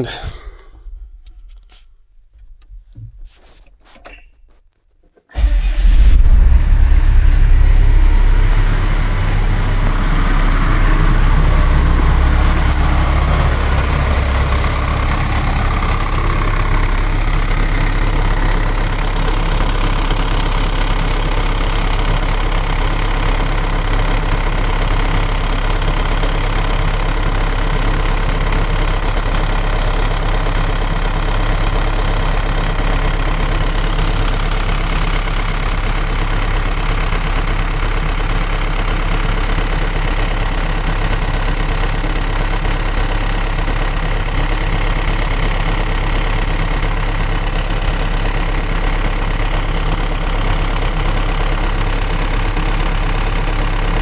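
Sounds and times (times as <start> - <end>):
excavator diesel engine running: 5.3 - 54.0.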